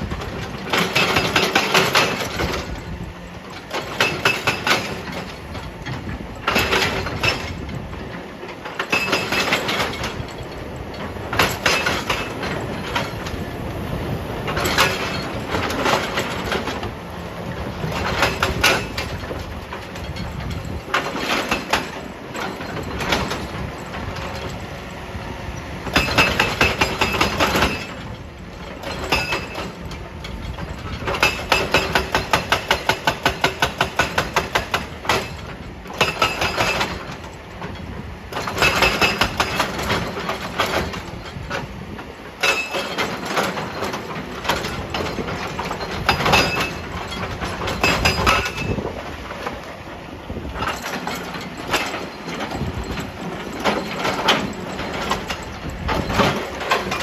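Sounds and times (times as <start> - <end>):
hydraulic breaker hammering rock: 0.0 - 13.4, 14.5 - 24.7, 25.8 - 49.6, 50.3 - 57.0.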